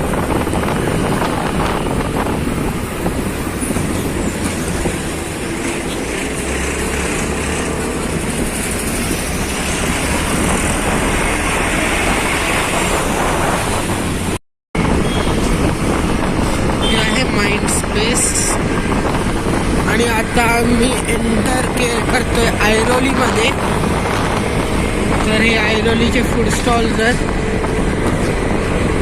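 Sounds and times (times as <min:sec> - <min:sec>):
motorcycle road and wind noise: 0:00.0 - 0:29.0
traffic rushing: 0:00.0 - 0:29.0.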